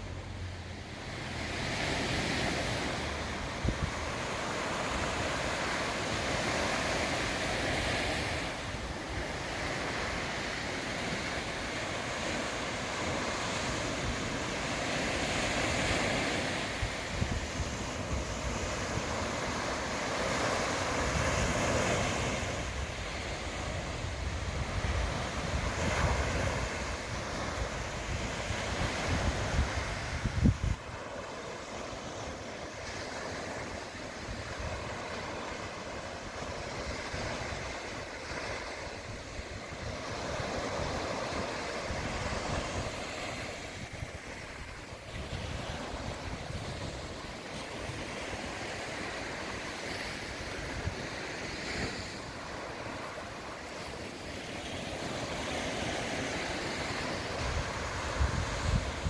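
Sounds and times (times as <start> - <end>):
surf washing onto shore: 0.0 - 59.0
wind buffeting microphone: 1.4 - 53.1, 53.7 - 59.0.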